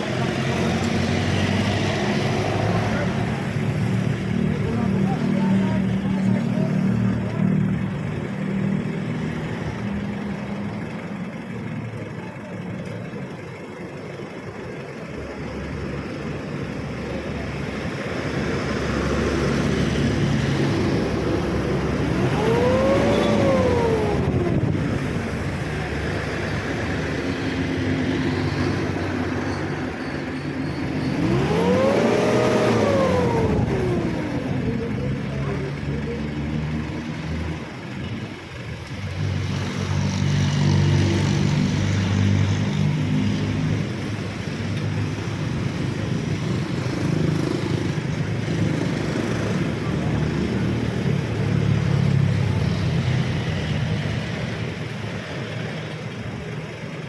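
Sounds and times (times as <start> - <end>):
vehicle engine revving: 0.0 - 11.4, 15.7 - 56.4.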